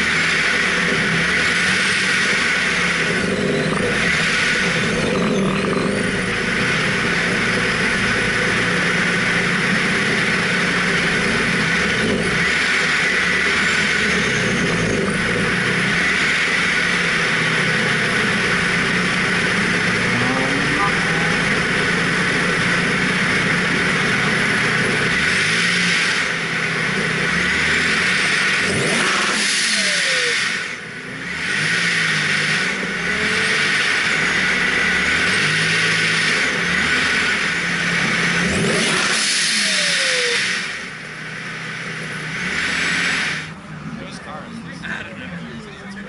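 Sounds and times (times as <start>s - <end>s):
car engine revving: 0.0s - 46.0s
supercharger whine: 0.0s - 46.0s.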